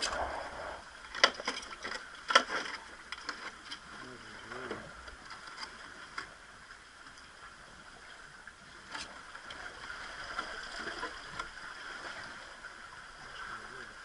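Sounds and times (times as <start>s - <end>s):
sea water lapping against rocks: 0.0s - 14.0s.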